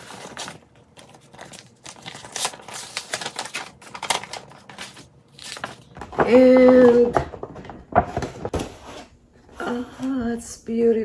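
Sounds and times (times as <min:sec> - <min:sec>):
paper rustling and crinkling: 0:00.0 - 0:09.1.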